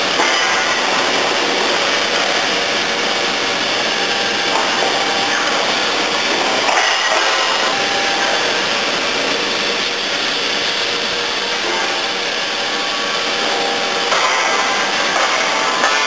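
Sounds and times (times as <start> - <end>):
continuous hiss: 0.0 - 16.0
faint hum: 0.0 - 16.0
machinery and conveyors running: 0.0 - 16.0.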